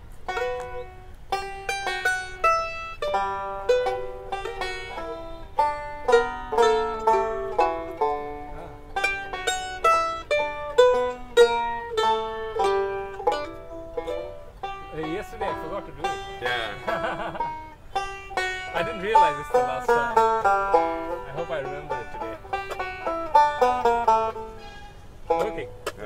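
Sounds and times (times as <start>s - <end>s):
banjo playing: 0.0s - 26.0s
mandolin playing: 0.0s - 26.0s.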